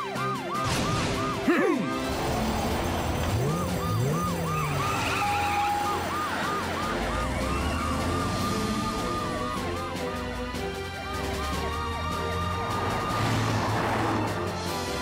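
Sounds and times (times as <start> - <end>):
cartoon police siren whoops: 0.0 - 13.5
background music: 0.0 - 15.0.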